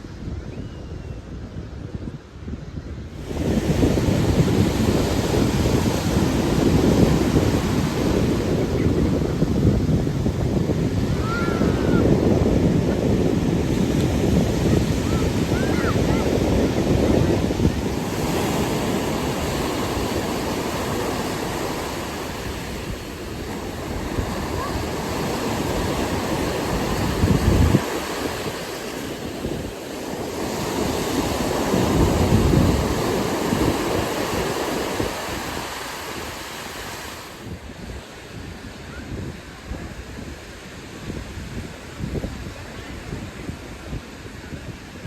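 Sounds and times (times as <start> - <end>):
wind buffeting microphone: 0.0 - 45.0
ocean surf washing in: 3.0 - 45.0.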